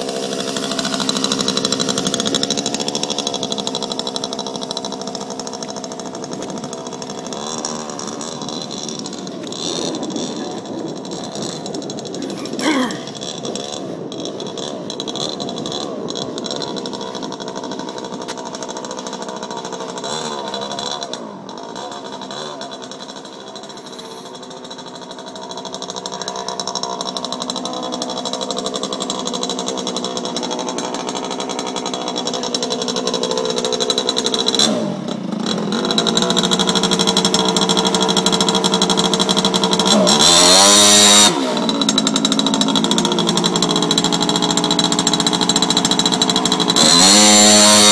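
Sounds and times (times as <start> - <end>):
small motorbike engine revving: 0.0 - 47.9.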